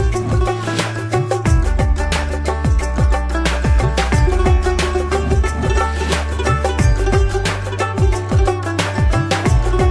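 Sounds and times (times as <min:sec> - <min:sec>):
kick drum: 0:00.0 - 0:00.6, 0:01.5 - 0:05.9, 0:06.7 - 0:09.9
bass line: 0:00.0 - 0:09.9
plucked string notes: 0:00.0 - 0:09.9.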